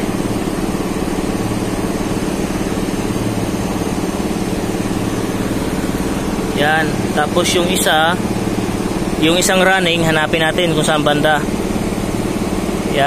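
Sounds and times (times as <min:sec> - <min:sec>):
machine droning: 0:00.0 - 0:13.0.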